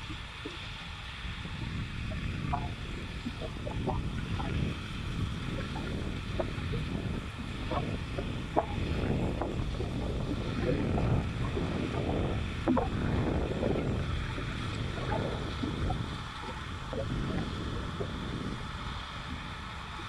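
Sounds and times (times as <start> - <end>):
wind buffeting microphone: 0.0 - 20.0
tractor diesel engine rumbling: 1.4 - 20.0.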